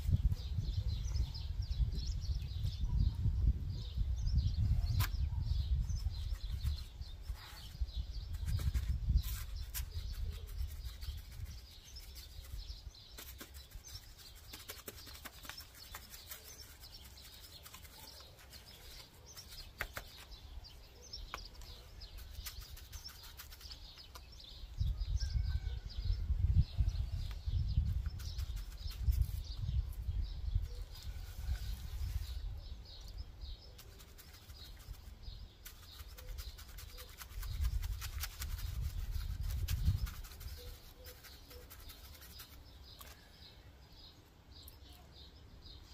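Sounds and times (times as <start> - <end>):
faint high chirping: 0.0 - 45.9
paintbrush scratching on stone: 4.6 - 25.4, 27.2 - 43.3.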